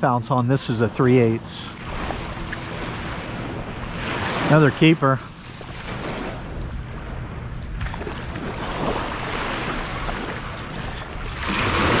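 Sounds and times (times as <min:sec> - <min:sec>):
surf washing on beach: 0:00.8 - 0:12.0
wind rumbling on microphone: 0:00.9 - 0:12.0.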